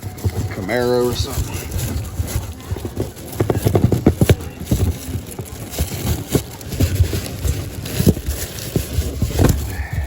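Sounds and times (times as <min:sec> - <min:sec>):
toy cars clattering in cardboard box: 0:00.0 - 0:10.0.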